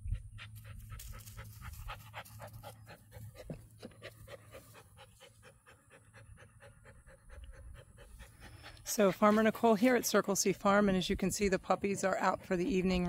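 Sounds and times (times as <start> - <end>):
dog panting rapidly: 0.2 - 13.0.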